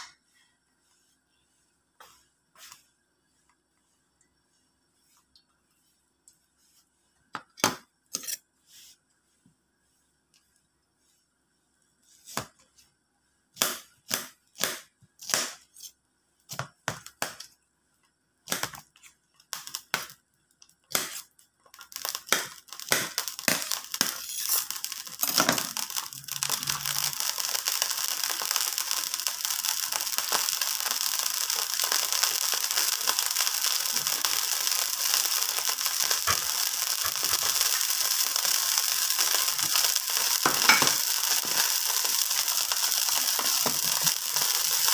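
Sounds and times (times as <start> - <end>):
oil popping and sizzling in a wok: 7.2 - 44.9.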